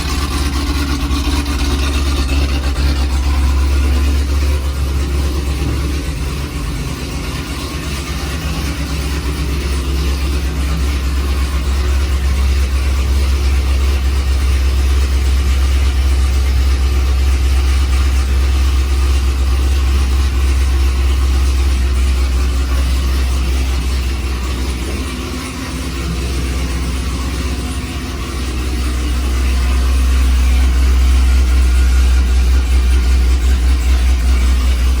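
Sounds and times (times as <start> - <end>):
car engine idling with deep rumble: 0.0 - 35.0.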